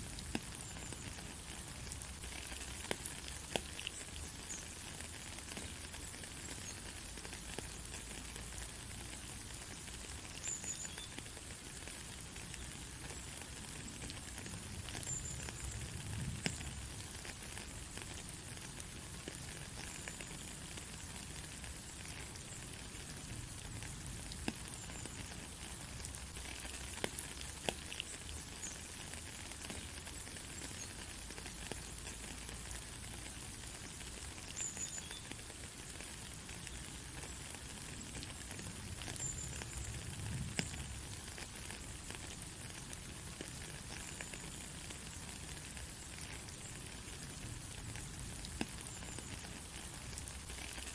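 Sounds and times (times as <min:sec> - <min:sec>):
rain falling on dirt road: 0:00.0 - 0:50.9.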